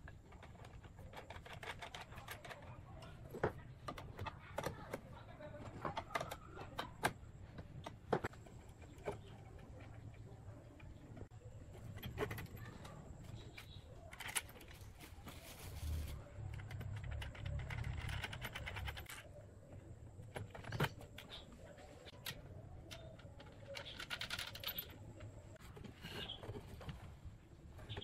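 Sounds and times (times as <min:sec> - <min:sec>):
scraping and rubbing: 0:00.0 - 0:07.0, 0:07.7 - 0:19.4, 0:22.9 - 0:28.0.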